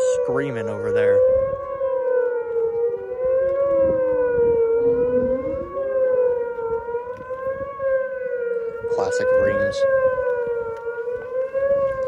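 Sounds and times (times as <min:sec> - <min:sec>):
fainter siren tone: 0:00.0 - 0:12.0
warning sirens wailing: 0:00.0 - 0:12.0.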